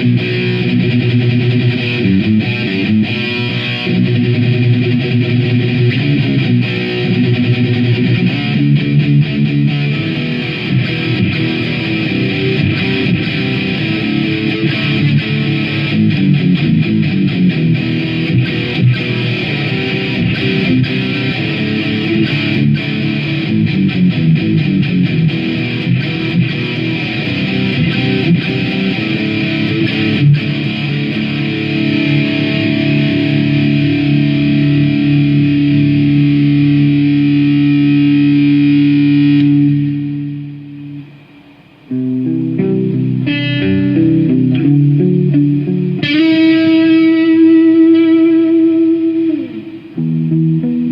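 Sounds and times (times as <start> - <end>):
distorted electric guitar: 0.0 - 50.9.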